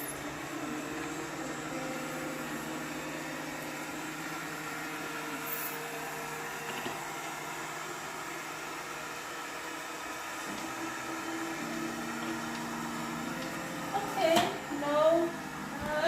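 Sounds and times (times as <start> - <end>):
robot vacuum cleaner humming: 0.0 - 16.0.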